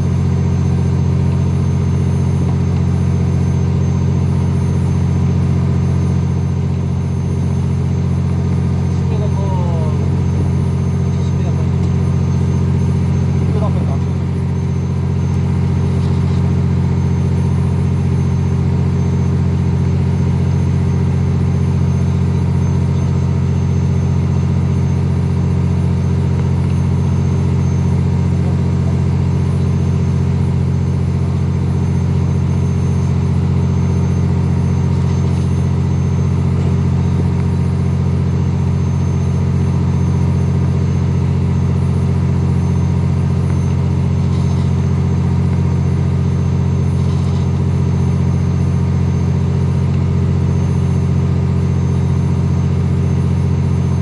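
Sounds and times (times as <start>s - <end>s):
boat engine humming: 0.0s - 54.0s
high whine: 0.0s - 54.0s.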